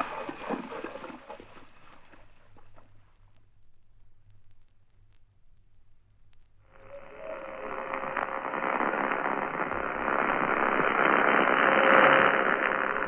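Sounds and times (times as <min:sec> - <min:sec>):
faint steady tone: 0:01.4 - 0:13.0
radio static hiss: 0:02.4 - 0:13.0.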